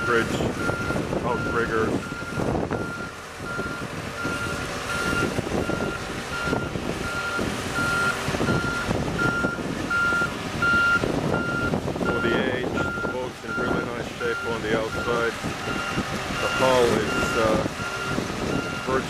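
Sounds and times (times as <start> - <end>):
lift engine running: 0.0 - 19.0
travel alarm beeping: 0.0 - 19.0
wind buffeting microphone: 0.0 - 19.0.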